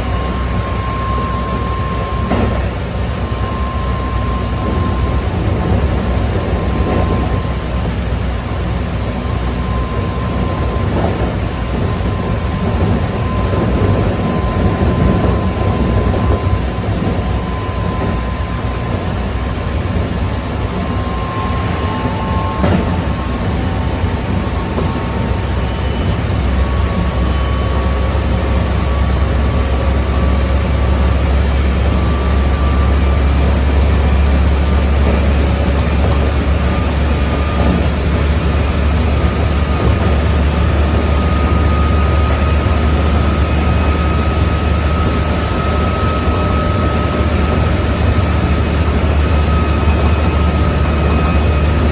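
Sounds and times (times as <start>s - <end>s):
deep rumble: 0.0s - 51.9s
rail running noise: 0.0s - 51.9s
train motors whining: 0.0s - 51.9s.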